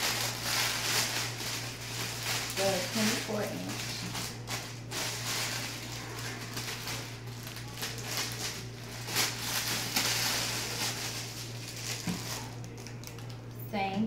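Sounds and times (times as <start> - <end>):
plastic packaging crinkling: 0.0 - 13.6
steady low hum: 0.0 - 14.0.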